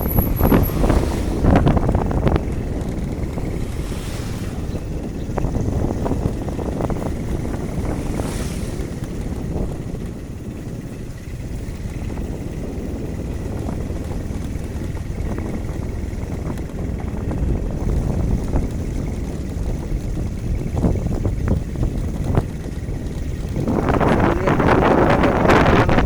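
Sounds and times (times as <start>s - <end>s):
road and vehicle noise: 0.0s - 26.0s
wind rumbling on microphone: 0.0s - 26.0s.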